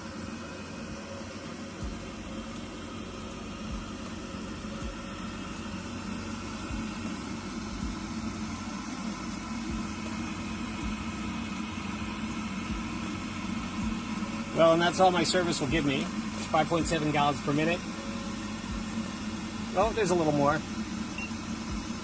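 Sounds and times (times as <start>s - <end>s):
gas water heater humming: 0.0s - 22.0s.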